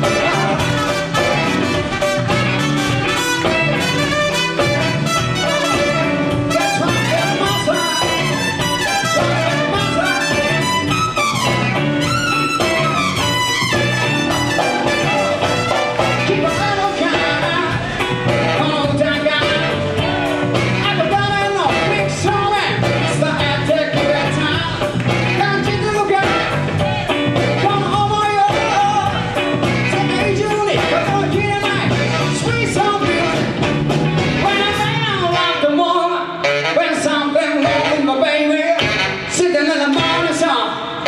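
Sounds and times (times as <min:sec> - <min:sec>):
bass guitar: 0:00.0 - 0:41.0
drums: 0:00.0 - 0:41.0
guitar: 0:00.0 - 0:41.0
lead vocal: 0:05.7 - 0:13.1, 0:13.8 - 0:41.0.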